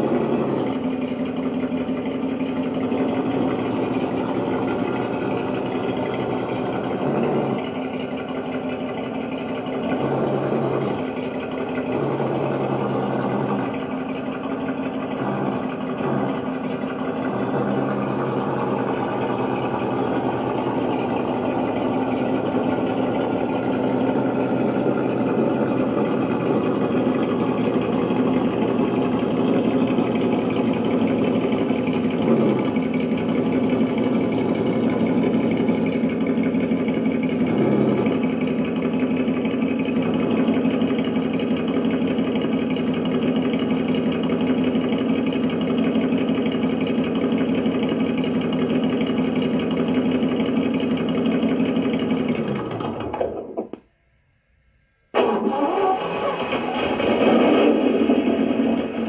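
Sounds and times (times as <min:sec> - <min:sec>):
simulated engine idle from speaker: 0:00.0 - 0:53.9.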